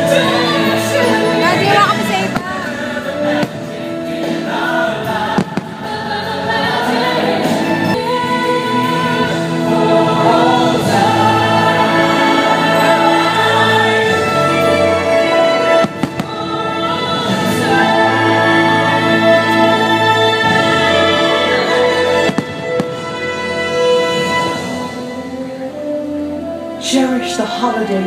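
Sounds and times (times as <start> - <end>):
choir singing: 0.0 - 25.7
orchestral music: 0.0 - 28.0.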